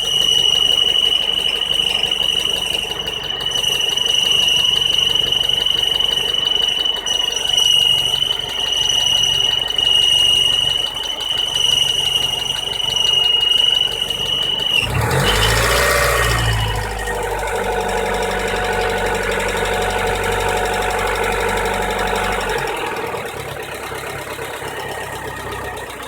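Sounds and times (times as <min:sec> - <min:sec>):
exhaust pipes squealing: 0:00.0 - 0:26.0
rough car engine running: 0:00.0 - 0:26.0.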